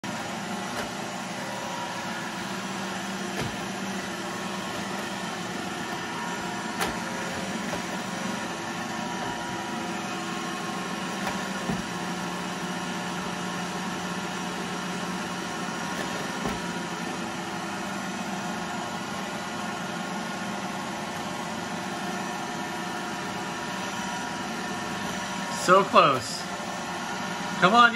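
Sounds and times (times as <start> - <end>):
robot vacuum whirring hum: 0.1 - 25.8.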